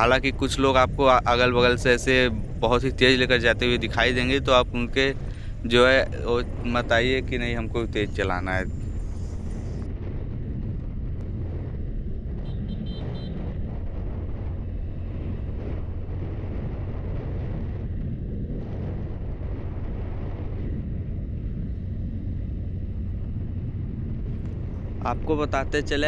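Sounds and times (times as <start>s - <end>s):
wind over microphone: 0.0s - 26.0s.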